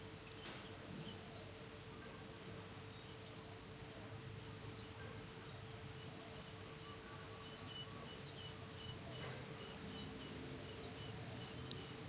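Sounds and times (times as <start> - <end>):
steady low hum: 0.0 - 12.0
small birds chirping: 0.2 - 12.0.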